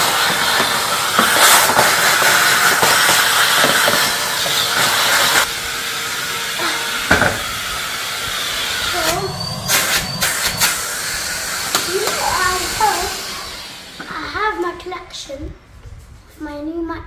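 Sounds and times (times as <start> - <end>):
vacuum cleaner hissing: 0.0 - 14.7.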